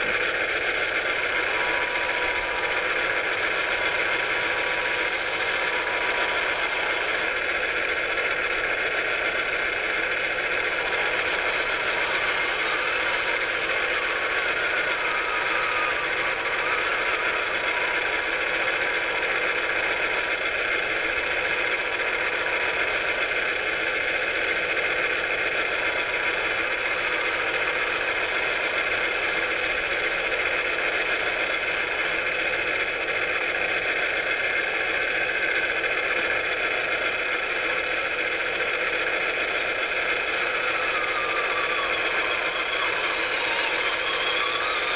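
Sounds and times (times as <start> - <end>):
small electric motors whirring: 0.0 - 44.9.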